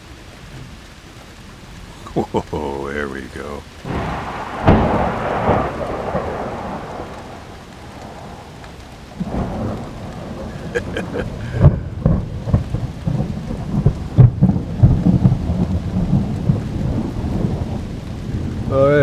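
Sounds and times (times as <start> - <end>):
steady rain: 0.0 - 19.0
thunder rumbling and cracking: 3.2 - 19.0.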